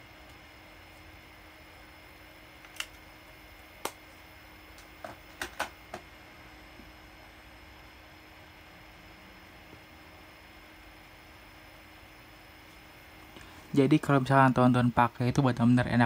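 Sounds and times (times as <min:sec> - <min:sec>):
faint hiss with electrical whine: 0:00.0 - 0:16.0.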